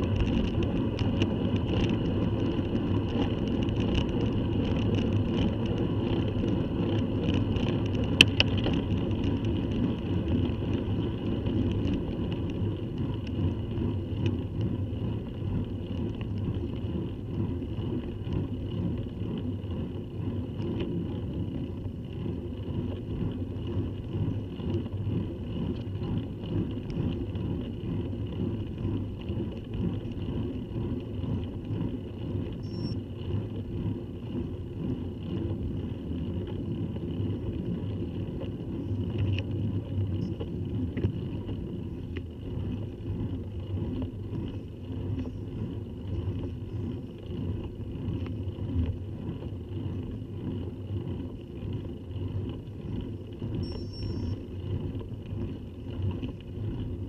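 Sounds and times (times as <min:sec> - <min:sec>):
bicycle tyres rumbling on tarmac: 0:00.0 - 0:57.0
wind on camera: 0:00.0 - 0:57.0.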